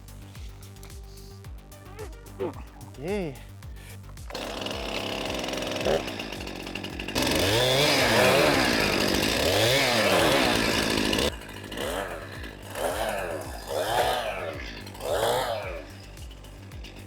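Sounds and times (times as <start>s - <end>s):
chainsaw throttle blips: 2.0s - 17.0s
chainsaw revving: 2.4s - 17.0s.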